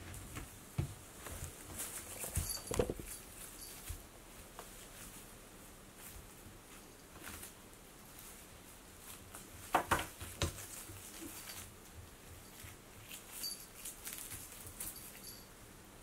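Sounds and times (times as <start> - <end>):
plastic ribbon rustling and crackling: 1.1 - 15.2.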